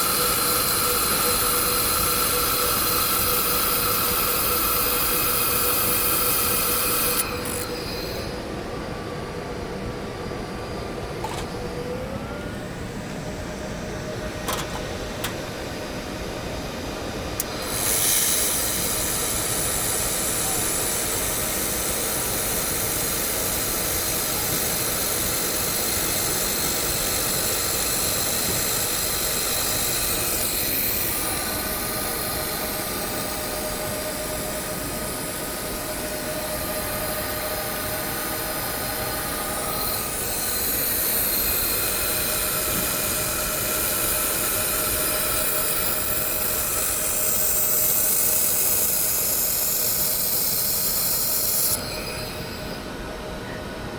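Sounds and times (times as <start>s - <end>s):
laser welder humming: 0.0s - 53.3s
loud steady hiss: 0.0s - 53.9s.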